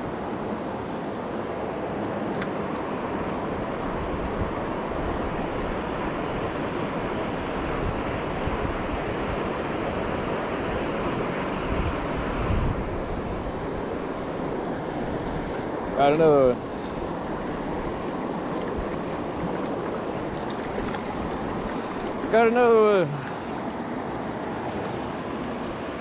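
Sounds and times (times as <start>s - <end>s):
river water over rocks: 0.0s - 26.0s
wind rumble on microphone: 3.2s - 26.0s.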